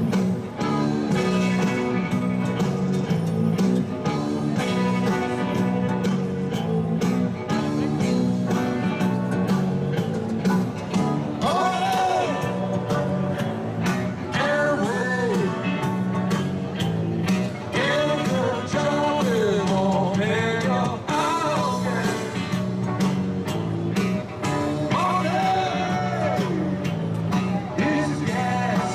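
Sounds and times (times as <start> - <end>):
rock song over loudspeaker: 0.0 - 28.9.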